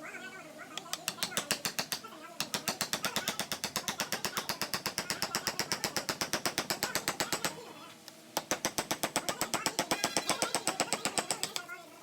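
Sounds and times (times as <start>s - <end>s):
tapping on wood-carving chisel: 0.8s - 7.6s, 8.4s - 11.7s.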